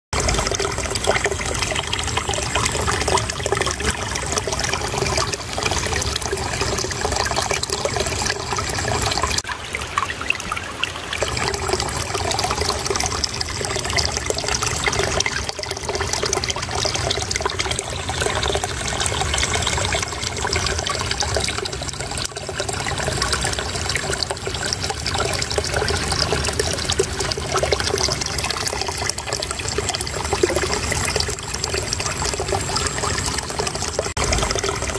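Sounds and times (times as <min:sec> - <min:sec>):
shallow water babbling over stones: 0:00.2 - 0:34.9.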